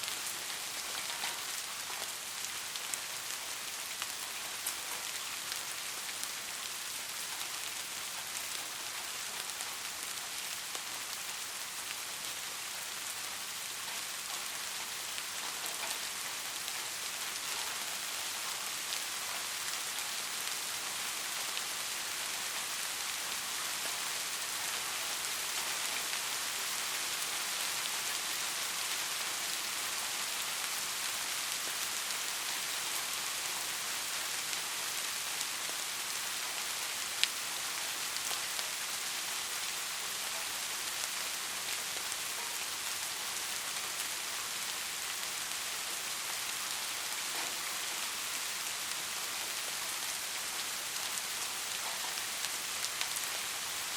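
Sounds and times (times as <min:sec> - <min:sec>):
soft rain falling: 0:00.0 - 0:53.9.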